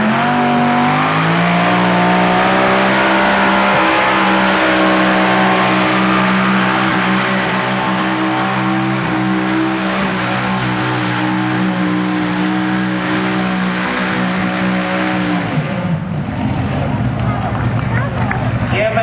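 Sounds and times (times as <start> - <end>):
tractor engine high-revving drone: 0.0 - 17.6.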